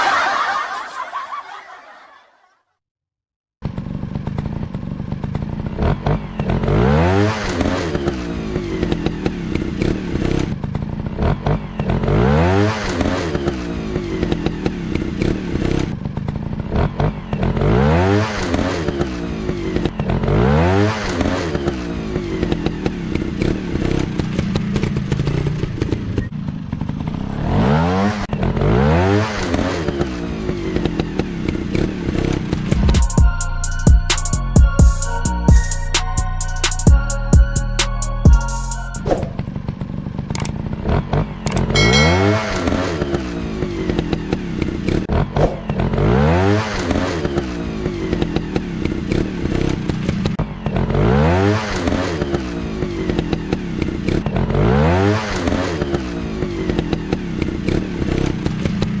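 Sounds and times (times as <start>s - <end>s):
dirt bike engine revving: 3.6s - 37.1s, 37.8s - 59.0s.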